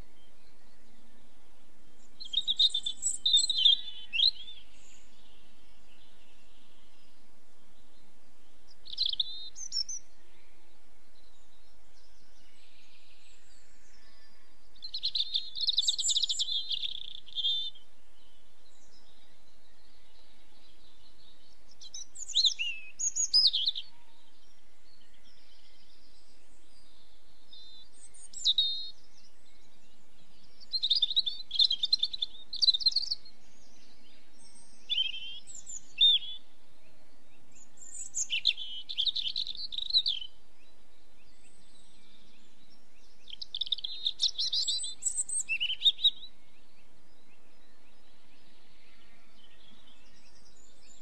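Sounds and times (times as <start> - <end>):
faint steady hiss: 0.0 - 51.0
small songbirds singing: 0.0 - 51.0.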